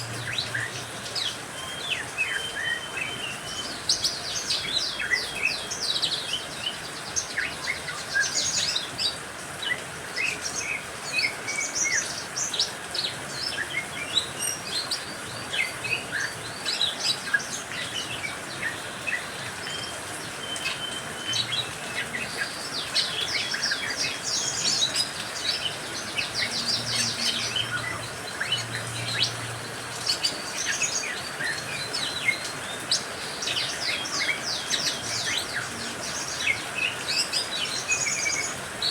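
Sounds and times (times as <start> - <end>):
rain hiss: 0.0 - 38.9
songbirds chirping and singing: 0.0 - 38.9.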